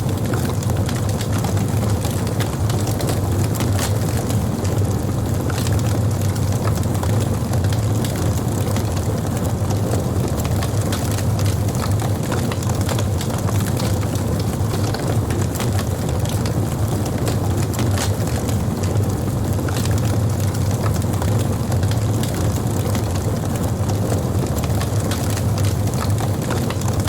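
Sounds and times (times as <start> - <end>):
campfire burning: 0.0 - 27.0
crackles and pops of fire: 0.0 - 27.0.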